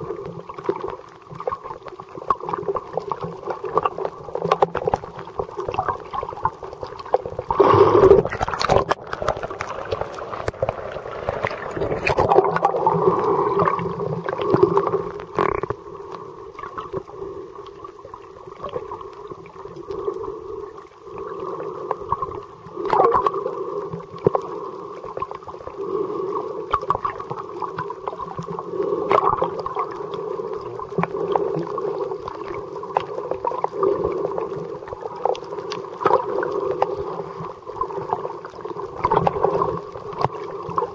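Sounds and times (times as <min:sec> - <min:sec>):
small underwater clicks: 0:00.0 - 0:40.9
underwater water wash and gurgling: 0:00.0 - 0:40.9.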